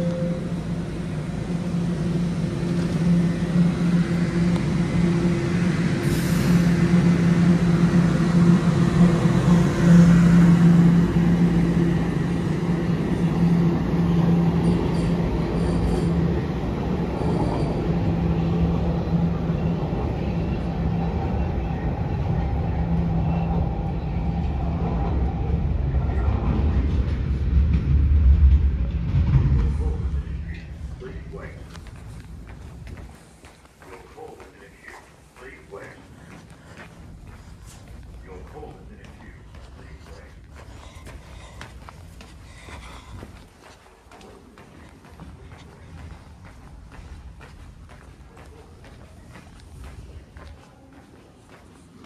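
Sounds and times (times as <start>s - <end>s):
train motor hum: 0.0s - 52.0s
wheels rumbling on rails: 0.0s - 52.0s.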